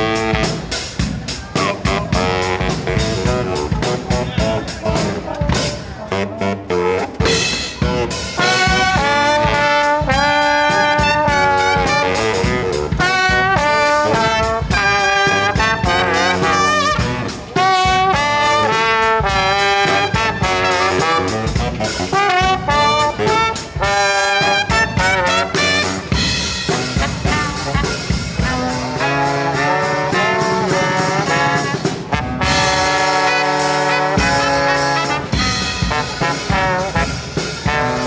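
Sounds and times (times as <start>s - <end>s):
drum beat: 0.0s - 6.0s, 7.2s - 38.0s
brass band playing jazz: 0.0s - 38.0s.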